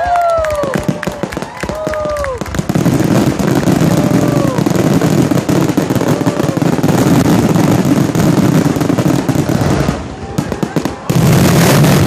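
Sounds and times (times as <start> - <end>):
fireworks bangs and crackle: 0.0 - 12.0.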